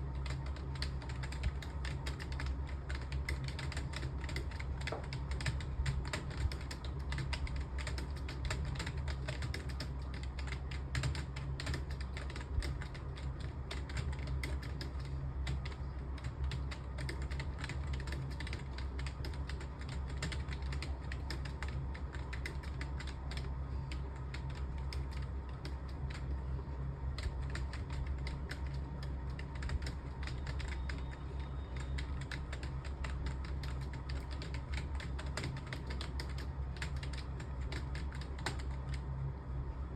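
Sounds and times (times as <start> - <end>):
typing on computer keyboard: 0.0 - 26.4, 27.1 - 39.0
low steady hum: 0.0 - 39.9.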